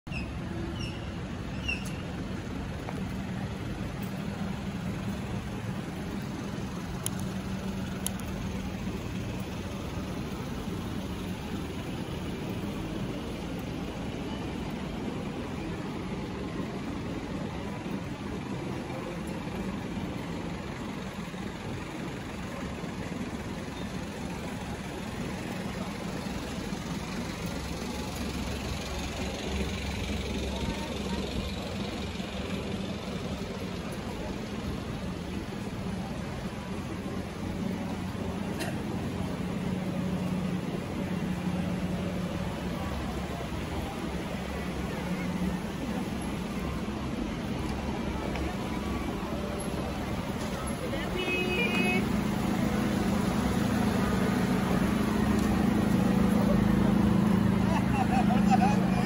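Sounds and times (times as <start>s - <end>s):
traffic hum: 0.0s - 59.0s
vehicle engines idling: 0.0s - 59.0s.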